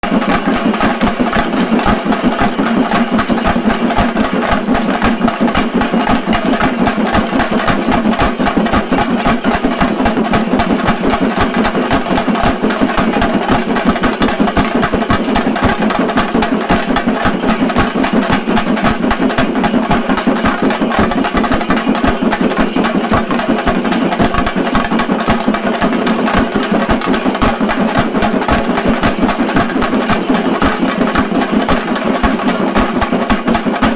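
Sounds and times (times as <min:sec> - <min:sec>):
drums played fast: 0:00.0 - 0:33.9.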